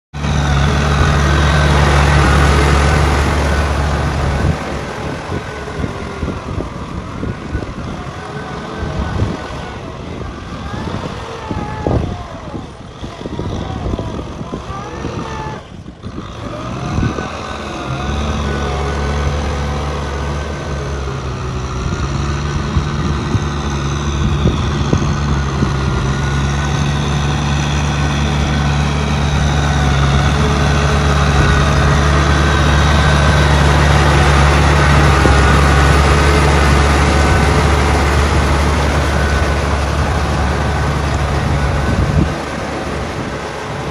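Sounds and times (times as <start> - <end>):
tractor diesel engine running: 0.1 - 43.9.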